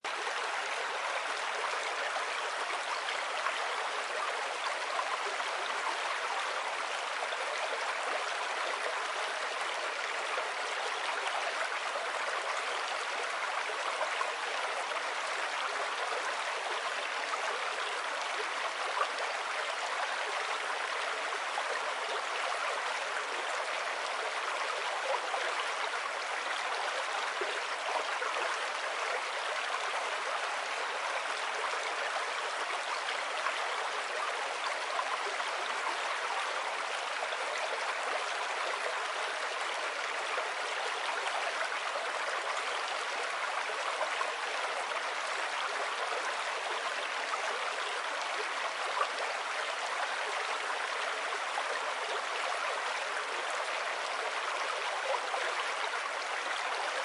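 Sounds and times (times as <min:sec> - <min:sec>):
river water rushing and babbling: 0:00.0 - 0:57.0.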